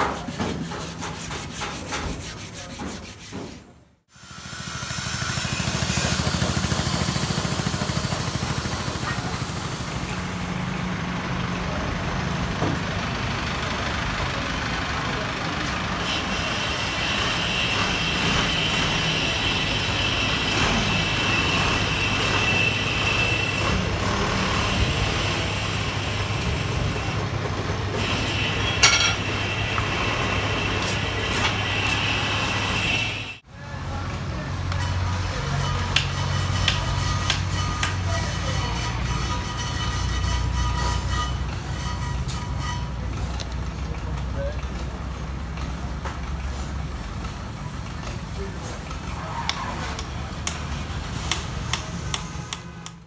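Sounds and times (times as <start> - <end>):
workshop noise: 0.0 - 53.0.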